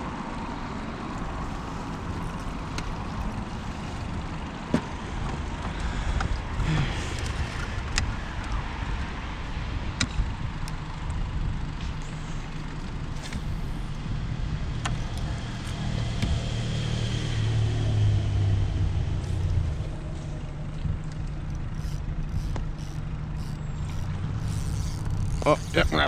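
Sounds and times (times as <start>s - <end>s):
engine low rumble: 0.0s - 26.0s.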